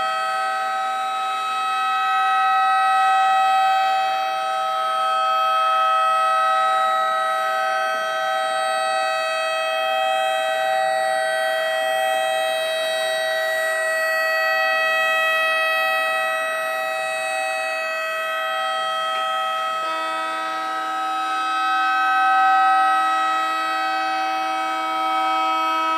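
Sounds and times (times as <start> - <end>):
electronic siren wail: 0.0 - 25.9
low siren tone: 0.0 - 25.9.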